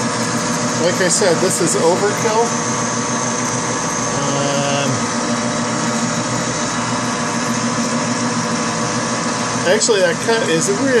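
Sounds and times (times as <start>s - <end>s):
coolant hiss: 0.0s - 11.0s
metal lathe humming: 0.0s - 11.0s.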